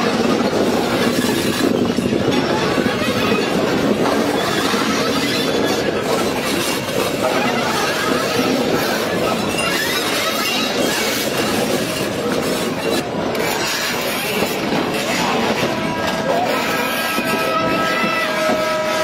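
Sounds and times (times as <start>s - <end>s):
train wagons rattling on rails: 0.0s - 19.0s.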